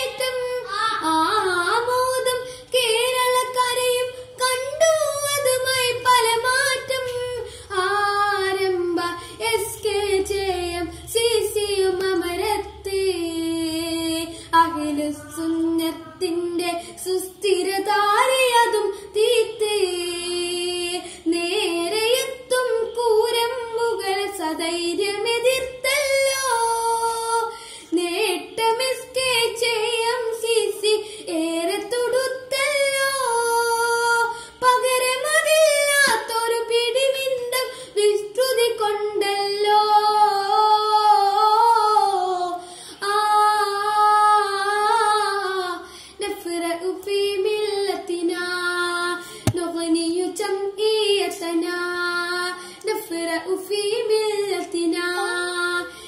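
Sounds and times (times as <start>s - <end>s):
boy singing: 0.0s - 55.9s.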